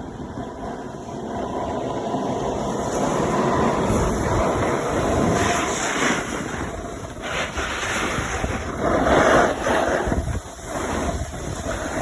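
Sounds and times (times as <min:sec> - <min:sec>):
skis sliding on snow: 0:00.0 - 0:12.0
wind rushing over microphone: 0:00.0 - 0:12.0.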